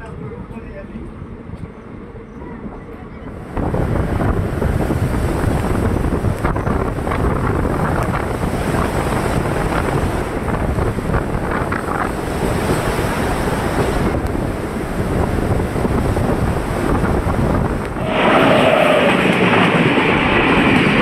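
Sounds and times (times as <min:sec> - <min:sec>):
train rumbling on track: 0:00.0 - 0:21.0
wind rushing over microphone: 0:02.6 - 0:21.0.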